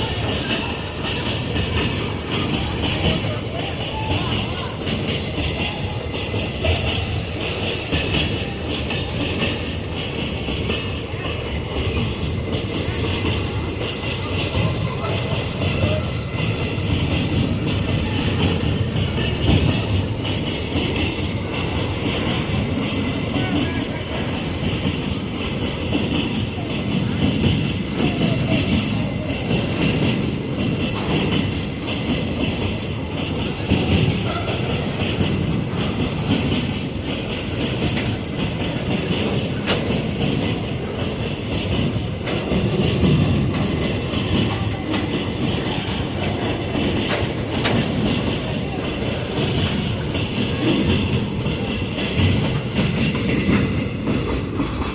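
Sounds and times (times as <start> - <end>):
freight train rumbling: 0.0 - 54.9
train wagon knock: 0.0 - 54.9.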